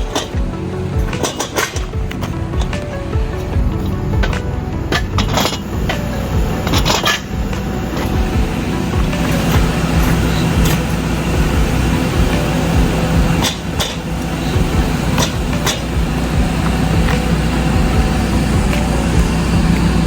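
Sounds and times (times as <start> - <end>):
metallic clanks of towing gear: 0.0 - 20.0
truck engine running: 0.0 - 20.0.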